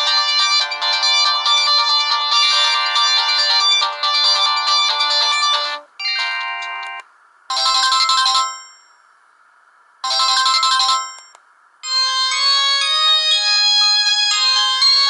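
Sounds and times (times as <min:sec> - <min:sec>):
phone ringtone melody: 0:00.0 - 0:09.0, 0:10.0 - 0:15.0.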